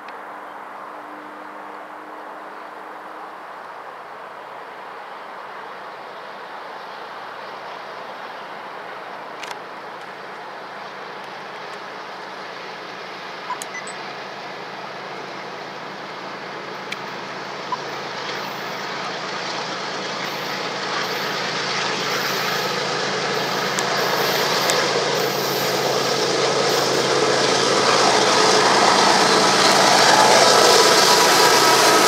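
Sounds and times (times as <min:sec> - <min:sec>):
diesel locomotive engine drone: 0:00.0 - 0:32.0
train rail noise: 0:00.0 - 0:32.0.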